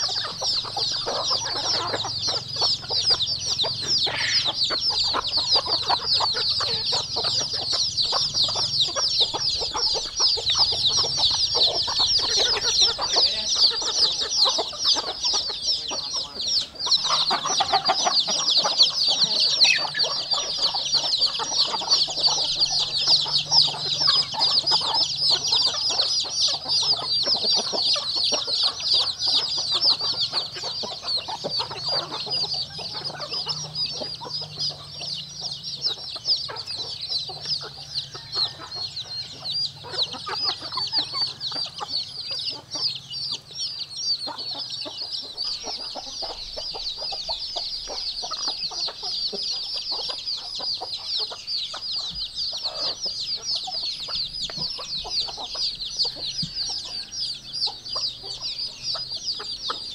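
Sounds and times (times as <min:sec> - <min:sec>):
baby chicks peeping: 0:00.0 - 0:59.9.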